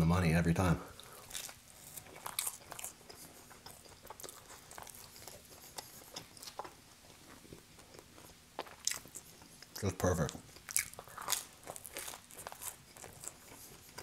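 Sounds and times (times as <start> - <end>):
chewing with mouth clicks: 1.0 - 14.0.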